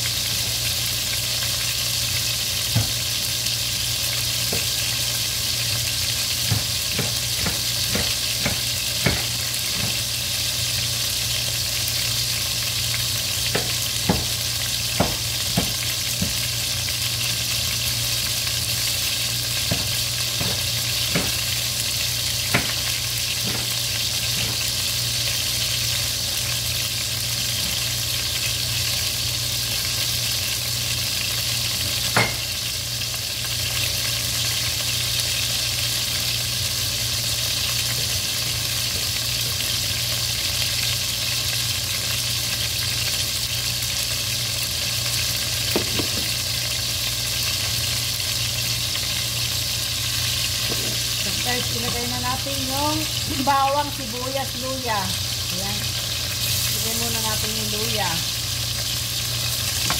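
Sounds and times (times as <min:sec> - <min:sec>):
chicken frying in oil: 0:00.0 - 0:59.9.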